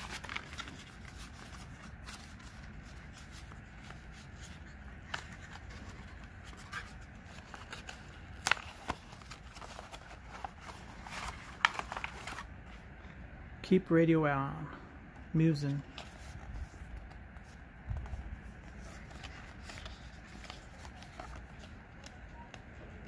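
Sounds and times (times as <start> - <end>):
paper envelope rustling: 0.0 - 12.9, 15.7 - 23.0.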